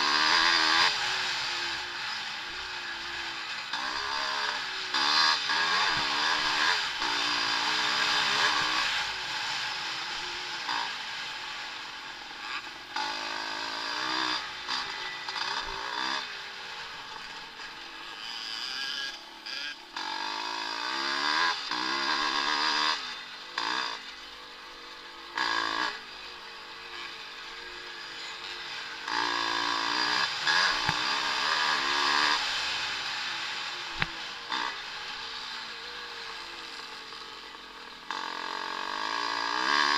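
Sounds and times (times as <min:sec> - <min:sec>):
motocross motorcycles revving: 0:00.0 - 0:39.9.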